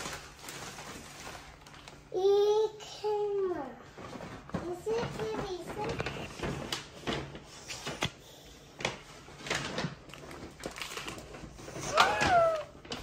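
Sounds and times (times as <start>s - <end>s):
cardboard and paper rustling: 0.0s - 13.0s.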